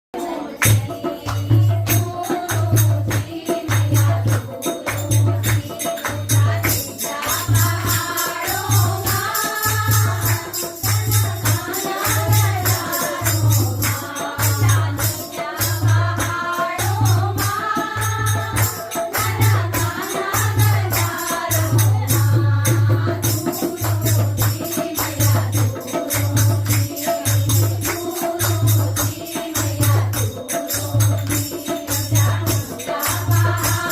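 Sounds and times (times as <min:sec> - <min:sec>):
tambourine jingling: 0:00.2 - 0:33.9.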